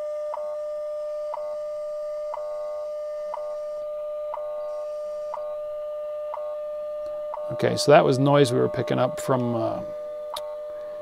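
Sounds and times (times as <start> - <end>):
steady audio tone: 0.0 - 11.0.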